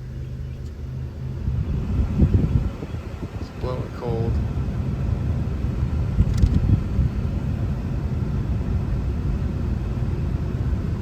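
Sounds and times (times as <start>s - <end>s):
air conditioning blowing: 0.0s - 11.0s
car engine low rumble: 0.0s - 11.0s.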